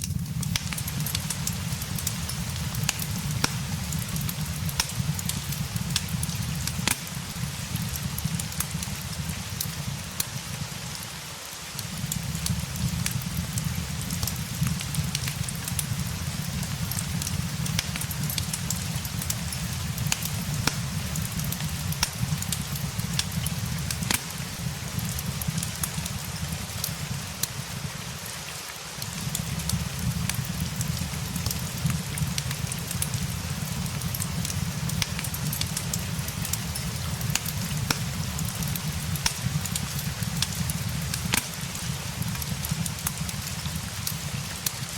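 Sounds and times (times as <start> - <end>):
fireplace crackling: 0.0 - 44.9
steady rain: 0.0 - 44.9.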